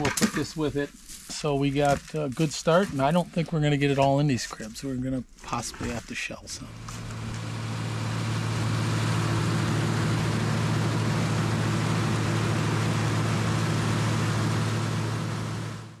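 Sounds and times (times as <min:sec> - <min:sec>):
corn picker machinery noise: 0:00.0 - 0:04.8, 0:05.4 - 0:16.0
tractor engine hum: 0:00.0 - 0:16.0.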